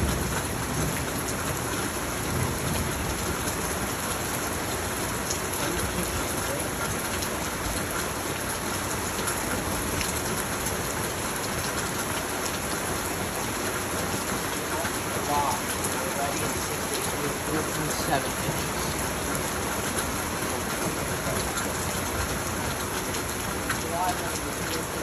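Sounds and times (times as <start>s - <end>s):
heavy rain pattering: 0.0s - 25.0s.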